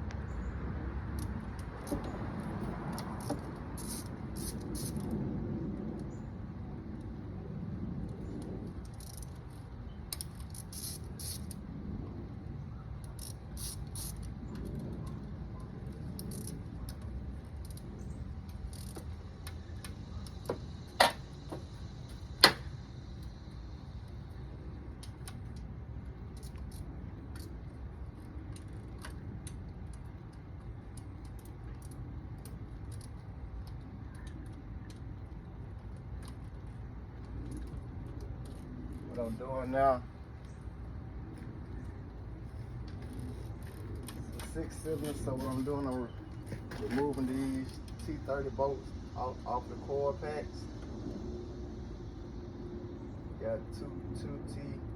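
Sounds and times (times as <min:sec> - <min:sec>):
steady low rumble: 0:00.0 - 0:54.9.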